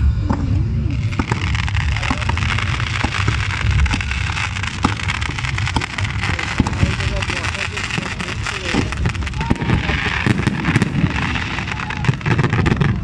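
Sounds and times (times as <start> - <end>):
fireworks crackling: 0.0 - 13.0
low rumble: 0.0 - 13.0
fireworks pops and bangs: 0.2 - 13.0.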